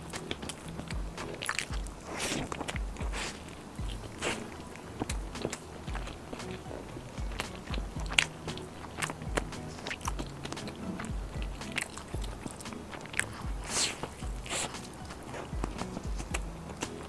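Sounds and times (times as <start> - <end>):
chewing crispy fried chicken: 0.0 - 17.0
soft background music with beat: 0.0 - 17.0.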